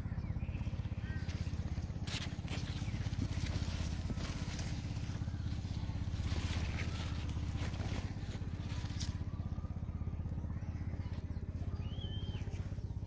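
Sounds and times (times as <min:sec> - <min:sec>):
bird chirp: 0:00.0 - 0:13.0
low pulsing engine hum: 0:00.0 - 0:13.0.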